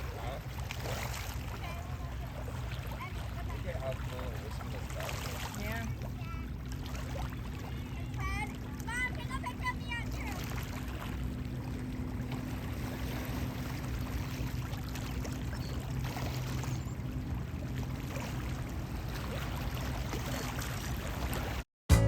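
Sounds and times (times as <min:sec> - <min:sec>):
moving water: 0:00.0 - 0:21.6
ship diesel engines humming: 0:00.0 - 0:22.0.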